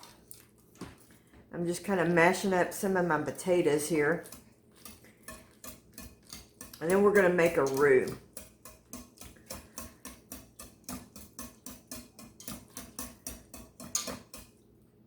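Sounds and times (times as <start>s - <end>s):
potatoes being mashed in pot: 0.0s - 15.0s.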